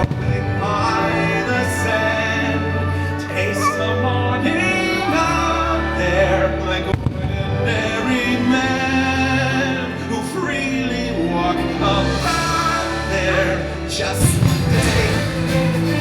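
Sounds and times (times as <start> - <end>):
music with singing: 0.0 - 16.0.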